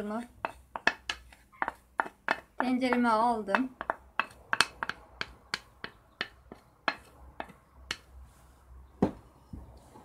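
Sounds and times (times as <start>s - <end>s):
pot clicking and ticking: 0.0s - 8.1s.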